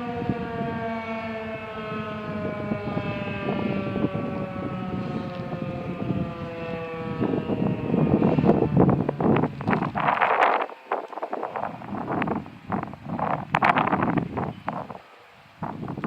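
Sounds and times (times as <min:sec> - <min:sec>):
warning siren winding down: 0:00.0 - 0:16.0
wind buffeting microphone: 0:00.0 - 0:16.0.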